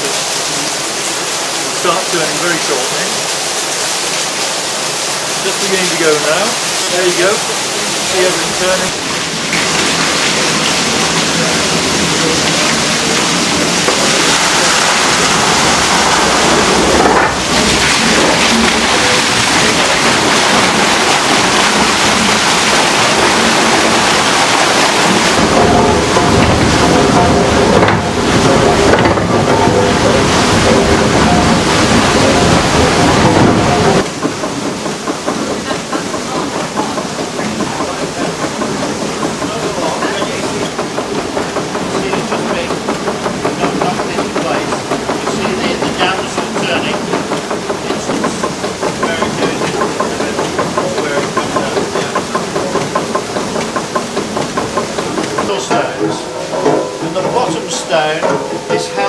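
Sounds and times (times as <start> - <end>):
mill machinery clattering: 0.0 - 59.0
water pouring onto water wheel: 0.0 - 59.0.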